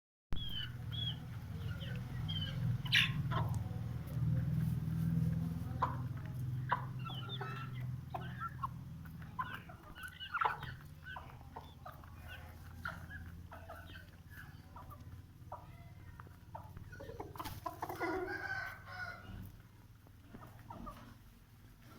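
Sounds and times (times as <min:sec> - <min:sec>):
chickens clucking: 0:00.4 - 0:21.9.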